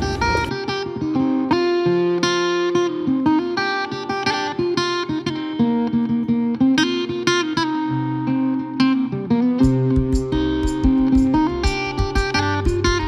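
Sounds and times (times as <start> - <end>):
plucked guitar run: 0.0 - 13.0.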